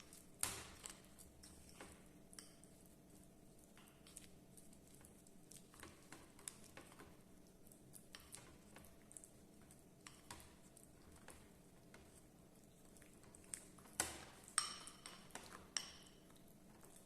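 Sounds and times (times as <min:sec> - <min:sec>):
quiet room hum: 0:00.0 - 0:17.0.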